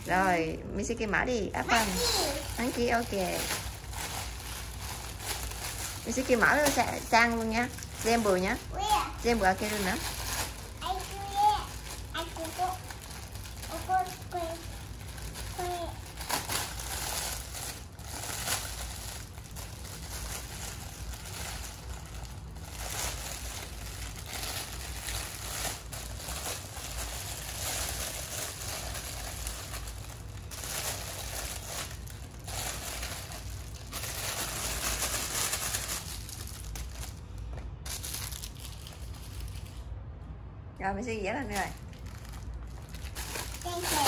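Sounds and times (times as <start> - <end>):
plastic bag crinkling: 0.0 - 40.0, 41.4 - 44.0.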